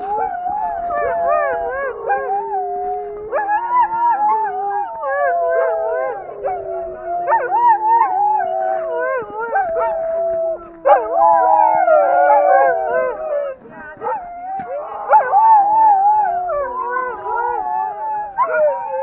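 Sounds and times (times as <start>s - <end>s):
sled dogs howling and yipping: 0.0s - 19.0s.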